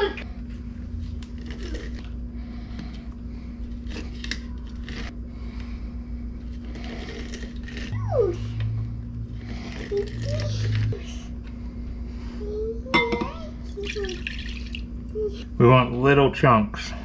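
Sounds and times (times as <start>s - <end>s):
limes ground on citrus juicer: 0.0s - 12.3s, 13.3s - 15.4s.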